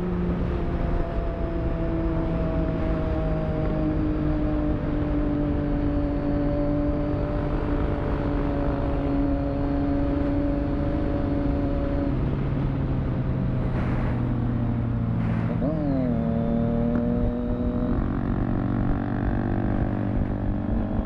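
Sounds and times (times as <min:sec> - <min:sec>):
heavy wind noise: 0:00.0 - 0:21.0
motorcycle engine running: 0:00.0 - 0:21.0.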